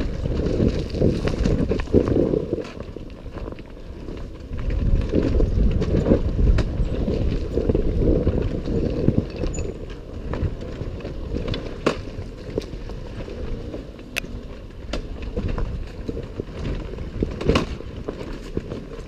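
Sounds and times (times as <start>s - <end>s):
footsteps on forest trail: 0.0s - 19.0s.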